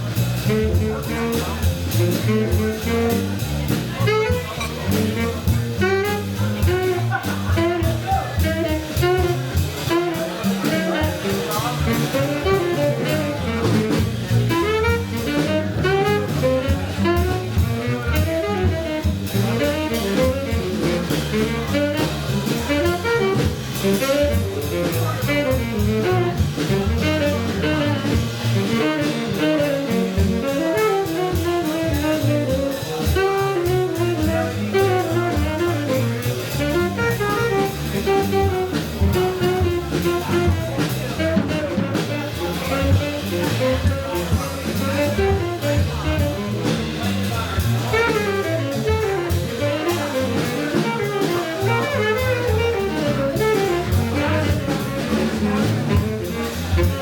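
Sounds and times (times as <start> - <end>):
jazz band playing: 0.0 - 57.0.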